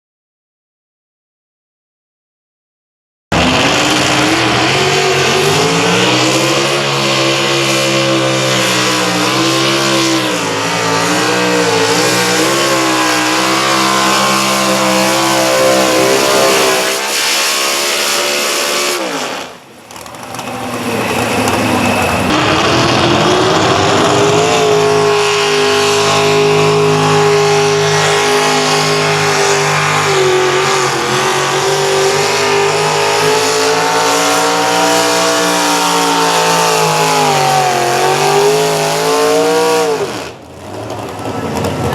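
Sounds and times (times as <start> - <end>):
tractor engine at high revs: 3.3 - 41.9.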